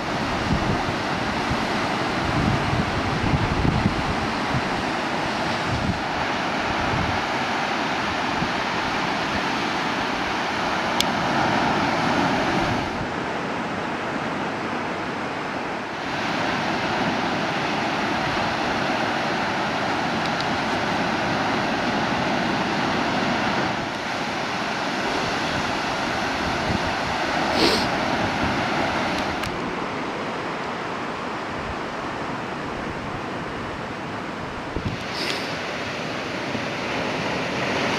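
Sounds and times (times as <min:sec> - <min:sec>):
ocean surf rushing: 0:00.0 - 0:37.9
wind on microphone: 0:00.0 - 0:37.9.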